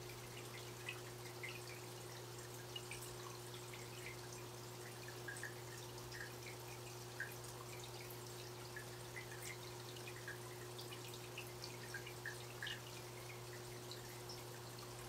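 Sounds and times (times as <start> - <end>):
water dripping and plinking: 0.0 - 15.0.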